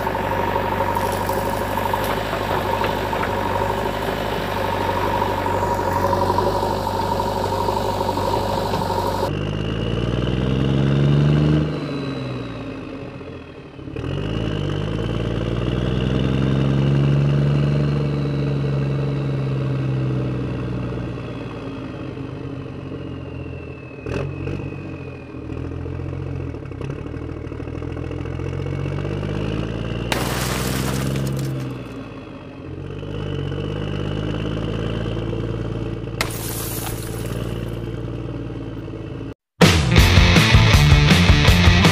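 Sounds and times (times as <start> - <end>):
vehicle engine revving: 0.0 - 21.2, 27.8 - 41.9.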